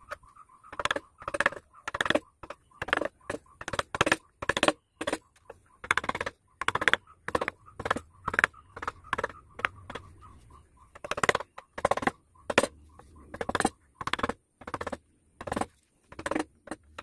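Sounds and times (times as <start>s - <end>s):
carving gouge cutting wood: 0.0s - 10.1s, 10.9s - 17.0s.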